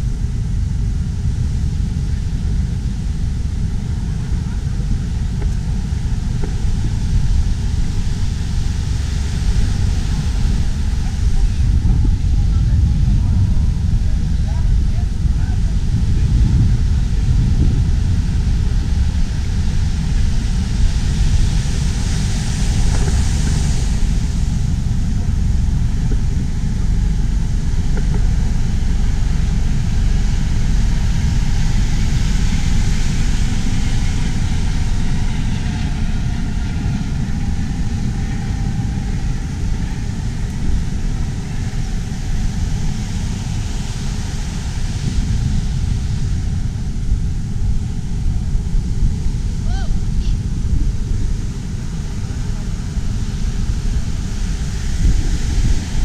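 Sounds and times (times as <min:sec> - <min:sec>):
wind rumbling on microphone: 0:00.0 - 0:56.0.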